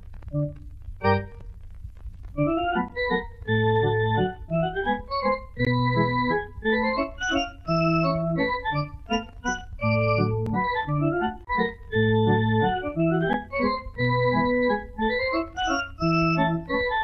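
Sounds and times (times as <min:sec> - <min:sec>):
organ music: 0:00.3 - 0:01.4, 0:02.4 - 0:17.0.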